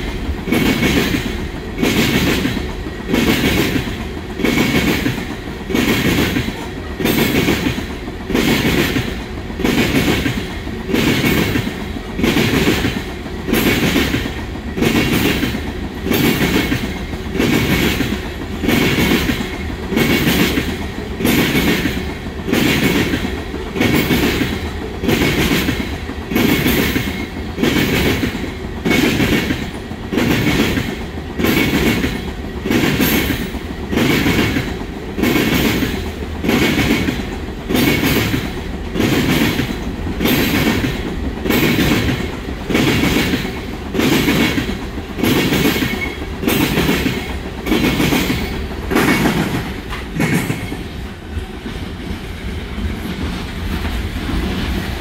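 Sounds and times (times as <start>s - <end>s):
train wheels clacking on rails: 0.0s - 55.0s.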